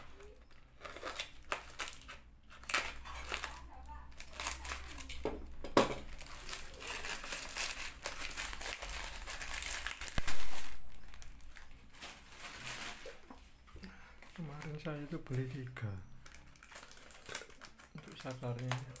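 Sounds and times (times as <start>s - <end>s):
plastic bag crinkling: 0.0s - 5.3s, 5.9s - 19.0s.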